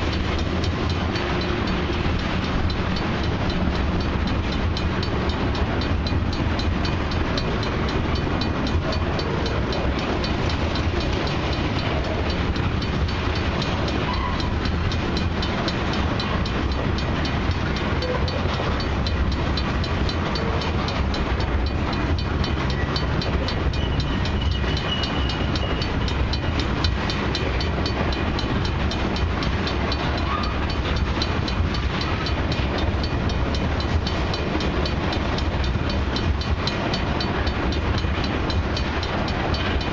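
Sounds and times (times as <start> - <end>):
train wheels clicking over rails: 0.0 - 39.9.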